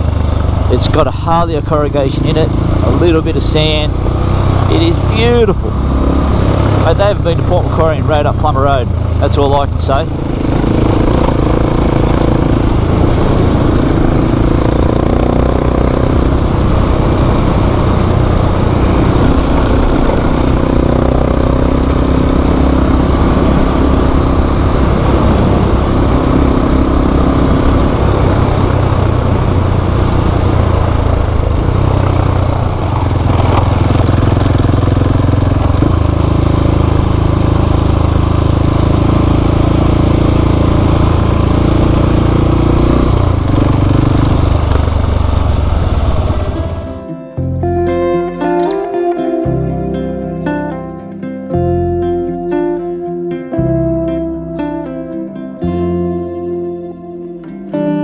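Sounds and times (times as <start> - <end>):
wind and road noise: 0.0 - 52.9
motorcycle engine cruising: 0.0 - 58.0.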